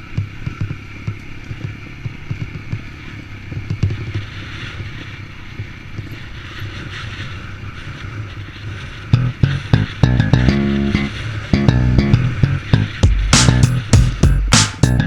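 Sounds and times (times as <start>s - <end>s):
dirt bike engine at low throttle: 0.0s - 15.0s.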